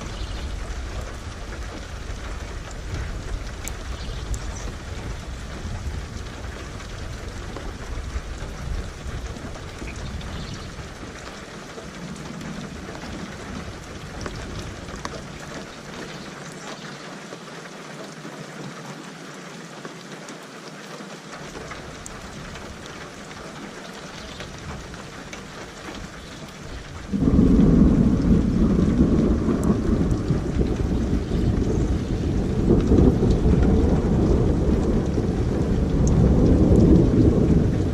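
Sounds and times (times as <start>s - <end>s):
thunder rumbling: 0.0s - 16.2s, 21.6s - 37.9s
steady rain falling: 0.0s - 37.9s.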